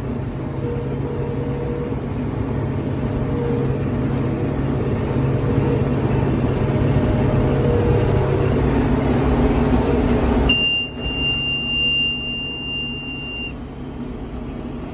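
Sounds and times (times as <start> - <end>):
tractor and baler running: 0.0 - 14.9.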